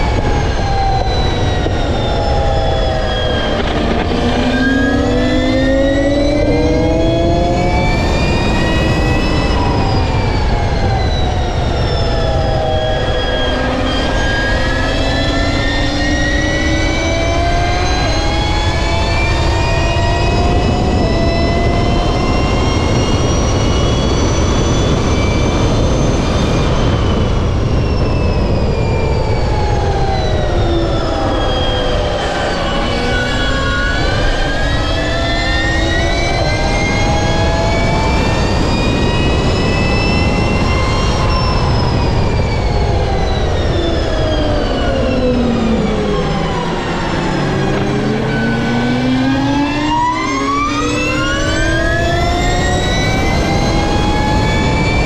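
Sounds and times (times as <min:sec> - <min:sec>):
electric motor whine: 0:00.0 - 0:55.0
wind rush on microphone: 0:00.0 - 0:55.0.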